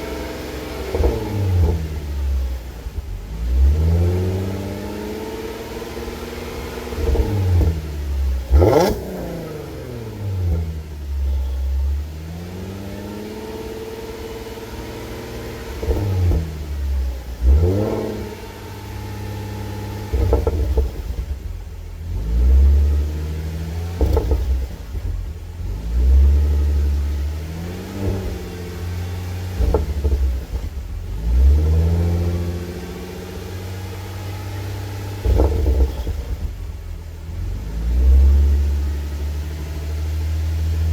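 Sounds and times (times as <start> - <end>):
car engine revving with burbles: 0.0 - 40.9.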